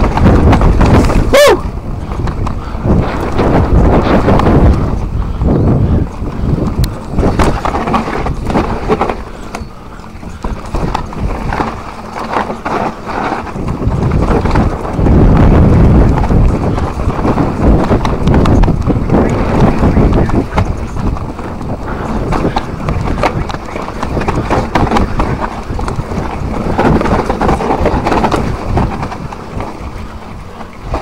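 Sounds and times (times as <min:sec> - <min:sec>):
bike rattles and knocks: 0:00.0 - 0:31.0
bike tyre noise on dirt: 0:00.0 - 0:31.0
heavy low rumble: 0:00.0 - 0:31.0.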